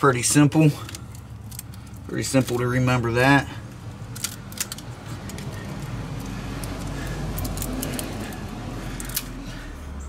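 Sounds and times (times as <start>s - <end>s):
clicks and crackles of wire tape: 0.8s - 9.4s.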